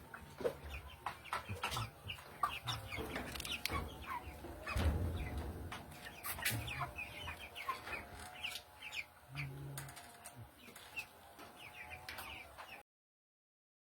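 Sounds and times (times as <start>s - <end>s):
chickens clucking and peeping: 0.0s - 12.8s.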